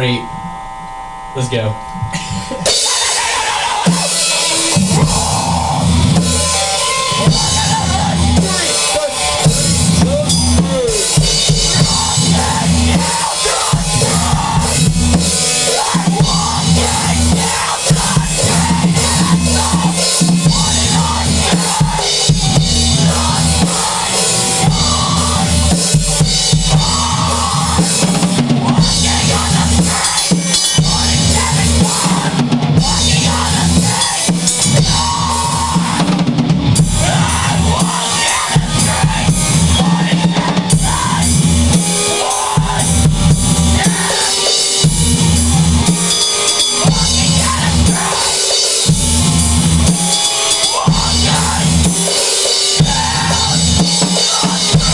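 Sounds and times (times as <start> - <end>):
metal music with drums: 0.0 - 54.9.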